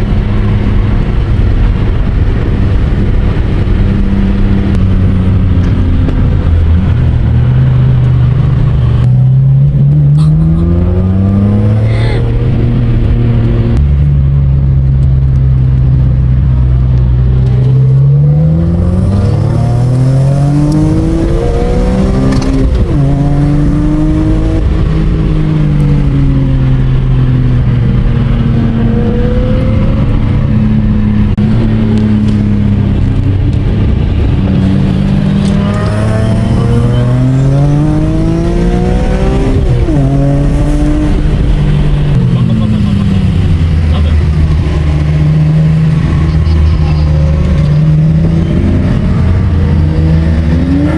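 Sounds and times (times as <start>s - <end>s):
race car engine accelerating hard: 0.0s - 50.9s.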